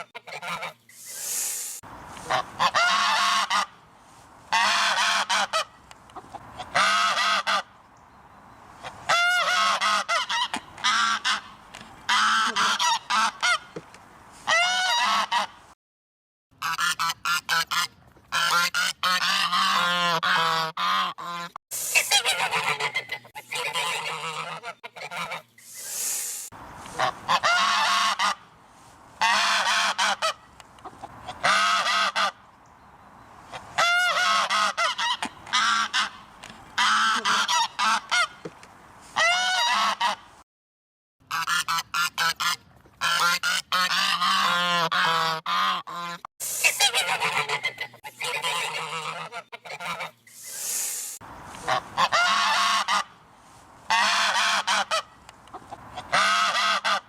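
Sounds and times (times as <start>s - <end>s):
geese honking: 0.0s - 1.4s, 2.1s - 3.8s, 4.5s - 7.7s, 8.8s - 13.7s, 14.5s - 15.6s, 16.6s - 26.0s, 26.8s - 28.6s, 29.2s - 32.4s, 33.5s - 38.4s, 39.2s - 40.3s, 41.3s - 50.2s, 51.5s - 53.2s, 53.9s - 57.0s.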